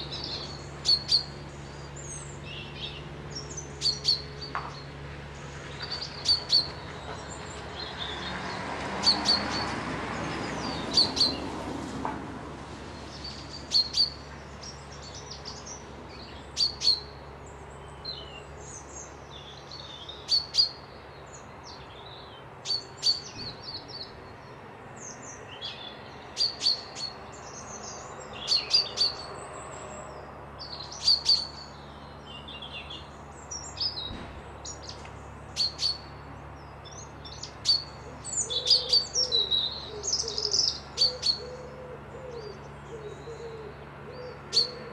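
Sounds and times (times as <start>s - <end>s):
songbirds chirping and whistling: 0.0s - 11.8s, 12.9s - 44.9s.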